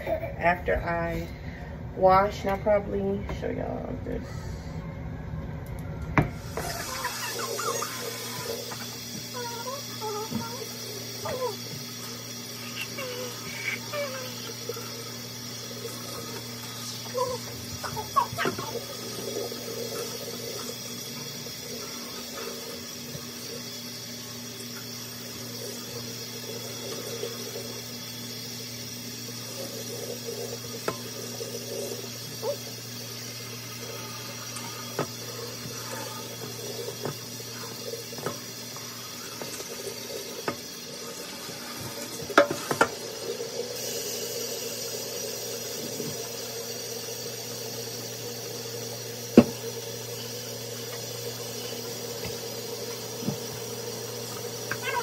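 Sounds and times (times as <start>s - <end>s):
low steady hum: 0.0s - 55.0s
water running from sprayer: 6.2s - 55.0s.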